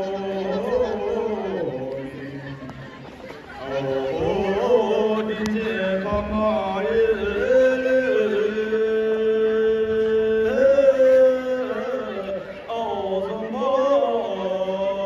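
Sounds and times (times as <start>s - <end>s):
man singing into a microphone: 0.0s - 3.0s, 3.6s - 15.0s.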